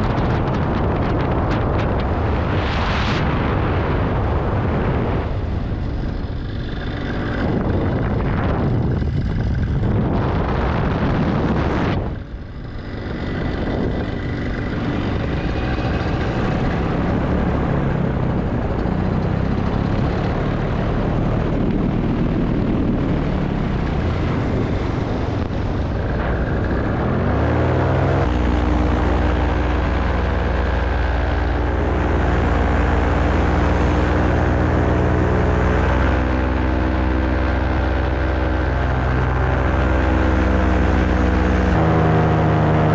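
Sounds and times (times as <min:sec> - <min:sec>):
paramotor engine and propeller: 0:00.0 - 0:42.9
wind rush on microphone: 0:00.0 - 0:42.9.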